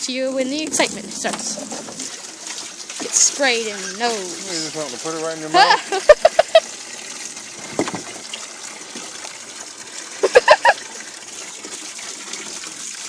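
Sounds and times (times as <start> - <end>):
water gushing from hose: 0.0 - 13.0.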